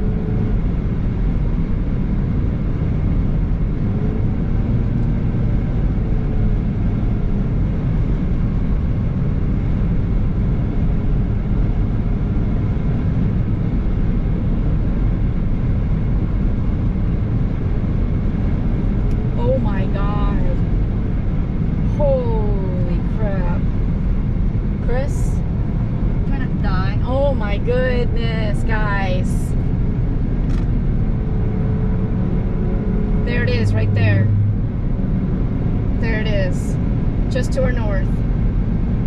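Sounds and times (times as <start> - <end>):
car cabin road and engine rumble: 0.0 - 39.0.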